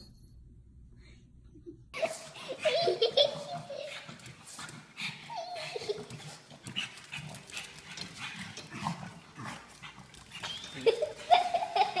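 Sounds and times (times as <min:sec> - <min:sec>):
paws scrabbling on tiles: 0:02.0 - 0:12.0.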